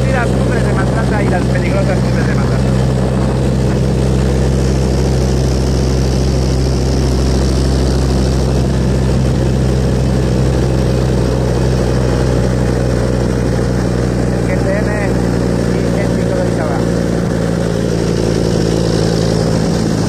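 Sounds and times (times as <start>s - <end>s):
road and wind noise: 0.0s - 20.0s
truck engine droning: 0.0s - 20.0s.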